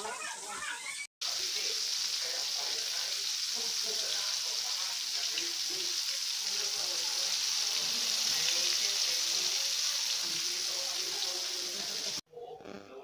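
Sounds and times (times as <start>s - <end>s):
pork deep-frying in oil: 0.1s - 12.2s.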